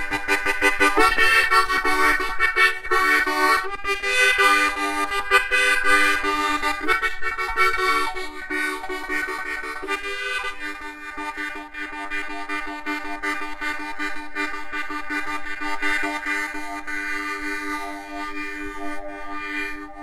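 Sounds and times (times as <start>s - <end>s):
harmonica playing chords: 0.0s - 20.0s.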